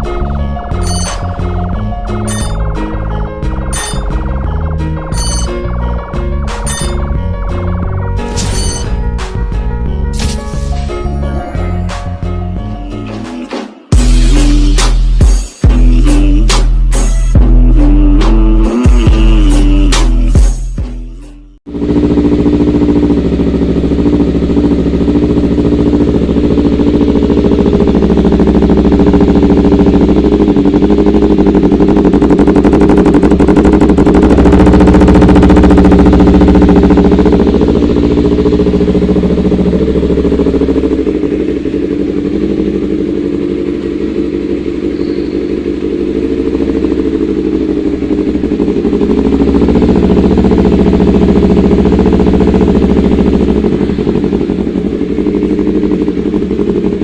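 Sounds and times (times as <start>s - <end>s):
motorcycle engine at high revs: 0.0s - 11.7s, 21.6s - 57.0s.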